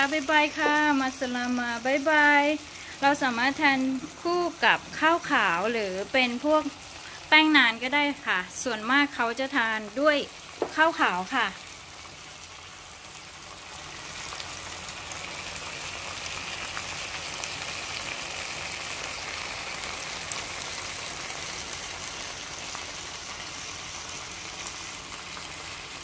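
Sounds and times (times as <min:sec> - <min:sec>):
sauce sizzling in a frying pan: 0:00.0 - 0:26.0.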